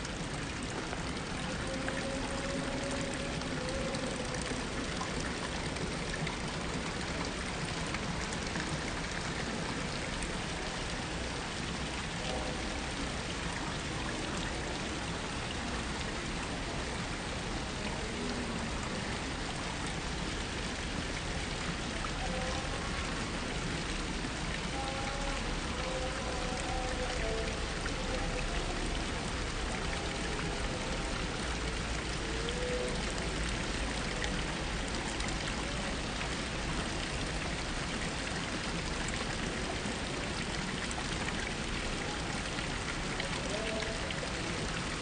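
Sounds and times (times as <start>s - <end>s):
fountain water splashing: 0.0s - 45.0s.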